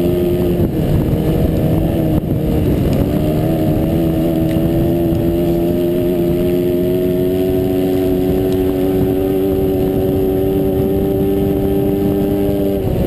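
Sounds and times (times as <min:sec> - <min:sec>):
motorcycle engine revving high: 0:00.0 - 0:13.0
wind rumble: 0:00.0 - 0:13.0.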